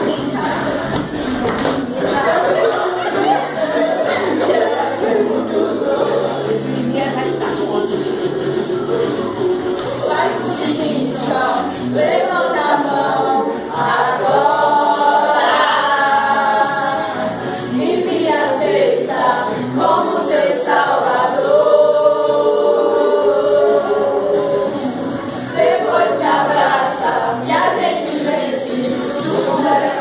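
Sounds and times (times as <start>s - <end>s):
gospel dance music with voices: 0.0s - 30.0s.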